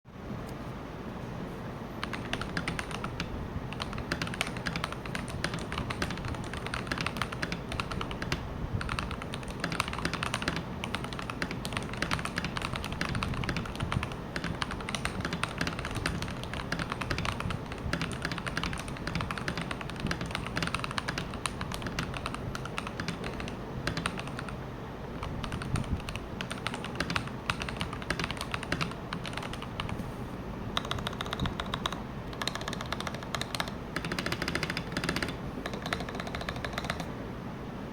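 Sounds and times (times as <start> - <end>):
mechanical keyboard typing: 2.0 - 24.6, 25.2 - 30.0, 30.8 - 37.1.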